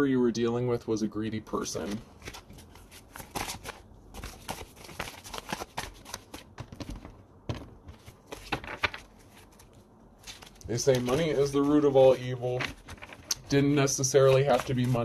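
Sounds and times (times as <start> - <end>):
cards being shuffled: 2.1 - 15.0.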